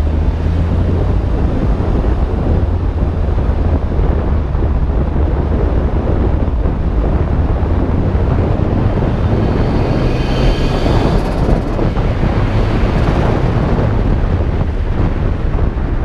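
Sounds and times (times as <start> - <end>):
car engine cruising: 0.0 - 16.0
wind noise on microphone: 0.0 - 16.0.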